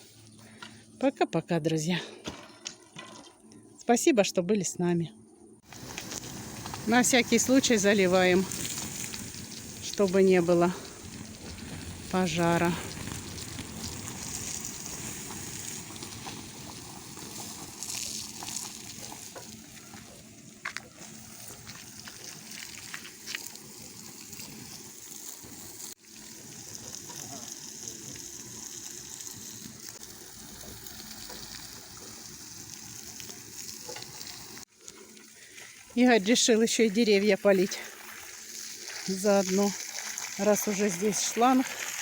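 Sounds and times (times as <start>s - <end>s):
water hissing on embers: 5.6s - 42.0s.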